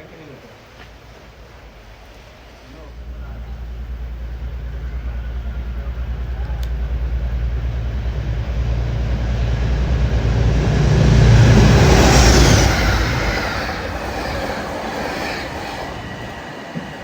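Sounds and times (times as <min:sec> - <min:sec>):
train hiss: 0:00.0 - 0:17.0
locomotive engine throb: 0:00.5 - 0:17.0
rail squeal: 0:00.9 - 0:17.0.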